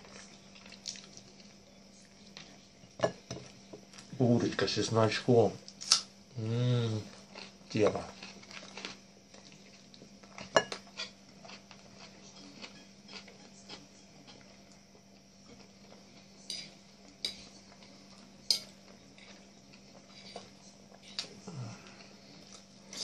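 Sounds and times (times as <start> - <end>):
chewing: 0.0 - 2.6, 7.0 - 23.0.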